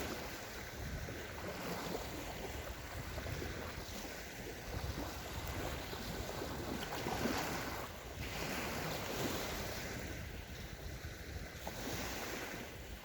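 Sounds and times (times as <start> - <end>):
sea waves washing onto shore: 0.0 - 13.0
wind buffeting microphone: 0.0 - 13.0.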